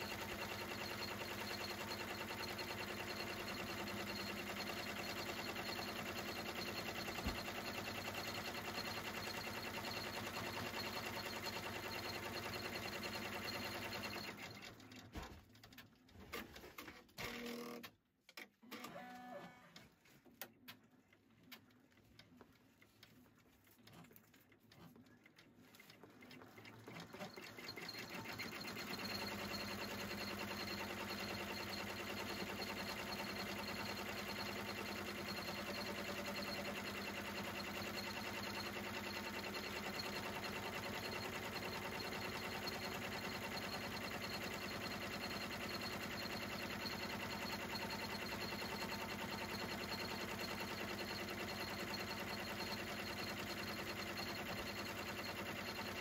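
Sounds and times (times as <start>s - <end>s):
embroidery machine stitching: 0.0s - 17.9s, 23.7s - 56.0s.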